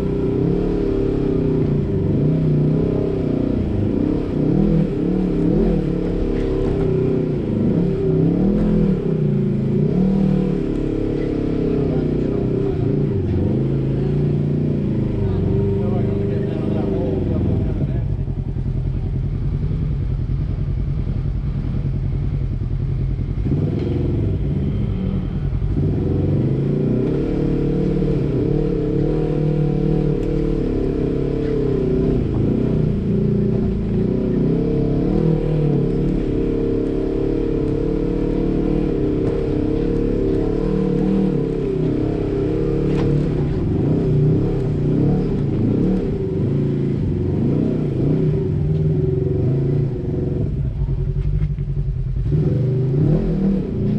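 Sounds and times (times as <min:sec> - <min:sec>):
off-road vehicle engine revving: 0:00.0 - 0:53.9.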